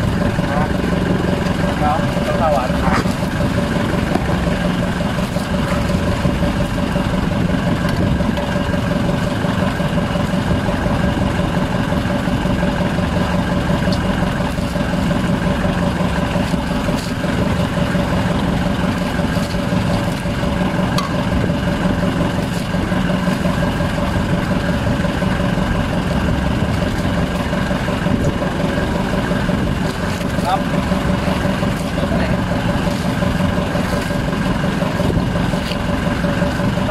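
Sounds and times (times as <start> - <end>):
boat engine humming: 0.0 - 36.9.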